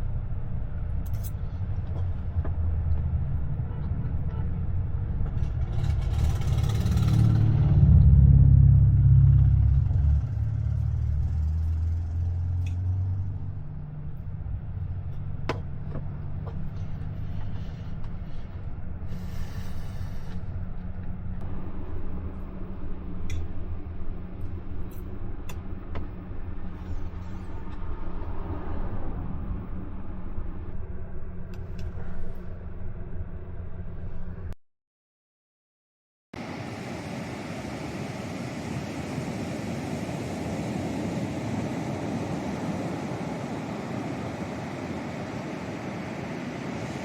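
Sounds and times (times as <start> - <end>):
rumble of traffic: 0.0 - 34.6, 36.4 - 47.0
motor vehicle passing by: 1.5 - 25.4, 26.1 - 33.2, 36.4 - 47.0.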